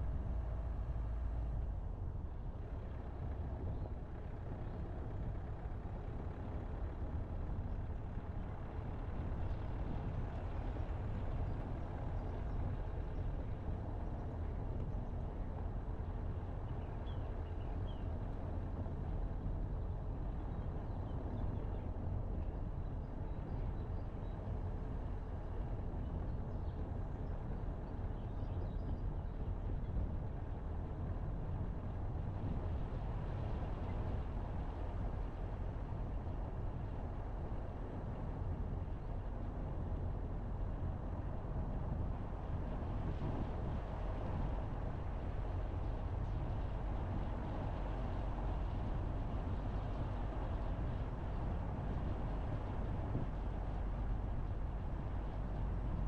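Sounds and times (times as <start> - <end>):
car driving on asphalt: 0.0 - 56.0.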